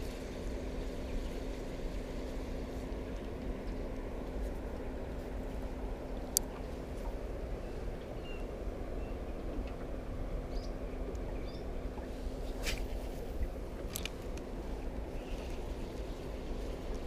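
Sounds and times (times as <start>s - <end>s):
constant low hum: 0.0s - 17.0s
low rumble: 0.0s - 17.0s.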